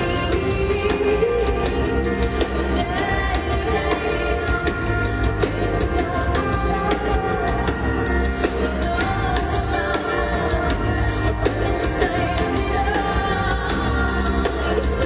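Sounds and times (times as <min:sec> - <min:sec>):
drums and cymbals: 0:00.0 - 0:15.0
live band music: 0:00.0 - 0:15.0.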